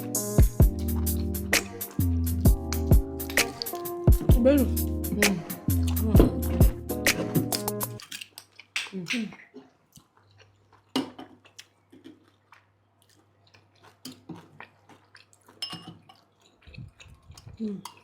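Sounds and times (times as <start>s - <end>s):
people chewing and biting: 0.4s - 4.4s, 5.5s - 18.0s.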